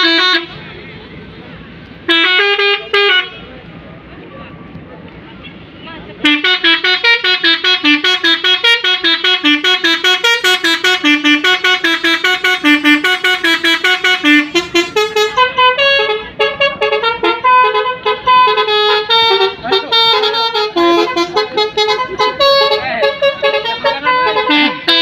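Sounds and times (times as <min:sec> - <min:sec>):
bus melody horn playing a tune: 0:00.0 - 0:00.6, 0:02.0 - 0:03.5, 0:06.2 - 0:25.0.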